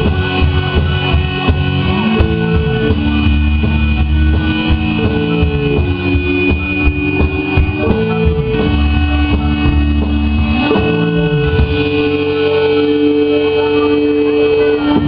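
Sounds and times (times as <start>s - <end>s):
electric guitar: 0.0s - 15.0s
sliding bass lines: 0.0s - 15.0s
synthesizer held notes: 0.0s - 15.0s.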